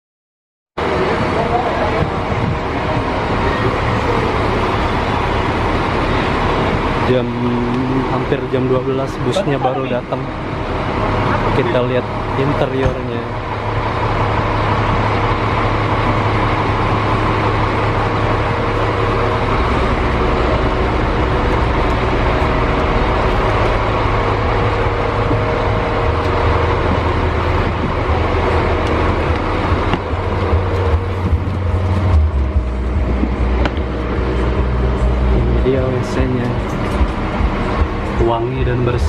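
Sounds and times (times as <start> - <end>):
diesel engine idling: 0.8 - 39.0.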